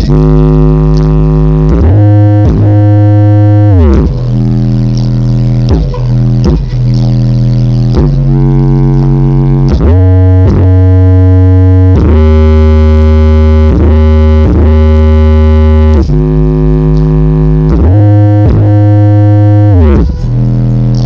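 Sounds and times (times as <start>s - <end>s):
loud synthesizer music with deep bass: 0.0s - 21.0s.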